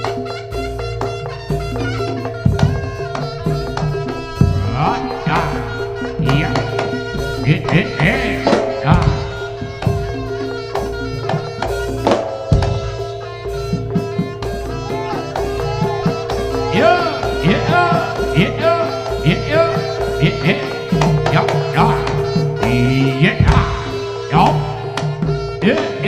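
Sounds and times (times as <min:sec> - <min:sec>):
bending melody line: 0:00.0 - 0:26.0
drum strokes: 0:00.0 - 0:26.0
steady held tones: 0:00.0 - 0:26.0.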